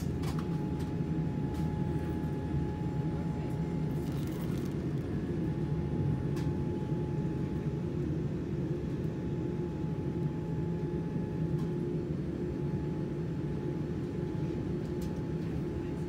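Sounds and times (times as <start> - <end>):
airliner cabin rumble: 0.0 - 16.0
faint steady whine: 0.0 - 16.0.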